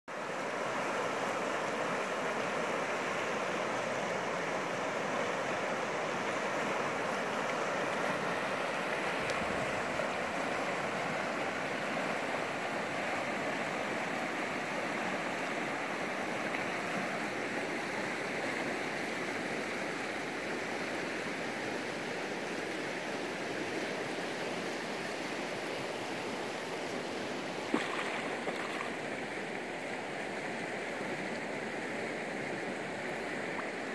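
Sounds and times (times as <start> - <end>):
river water over rocks: 0.1 - 33.9.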